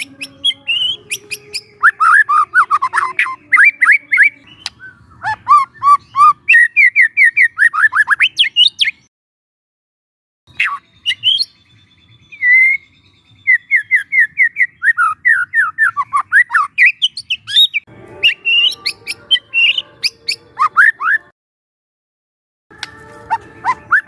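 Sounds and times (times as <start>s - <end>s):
bird singing whistled calls: 0.0s - 9.1s, 10.5s - 21.3s, 22.8s - 24.0s.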